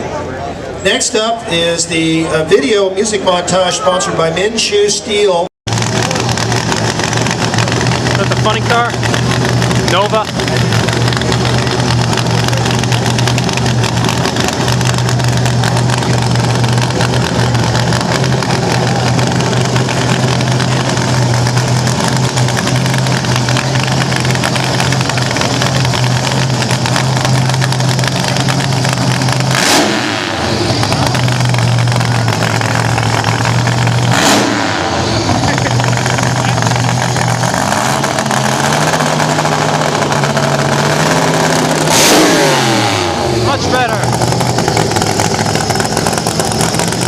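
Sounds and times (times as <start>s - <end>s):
race car engine idling: 4.5s - 47.0s
engine revving: 5.7s - 47.0s.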